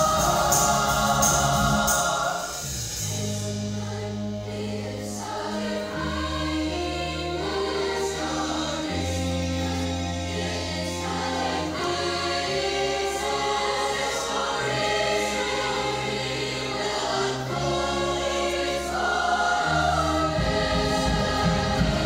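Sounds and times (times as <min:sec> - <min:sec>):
large choir singing: 0:00.0 - 0:22.0
live band accompaniment: 0:00.0 - 0:22.0.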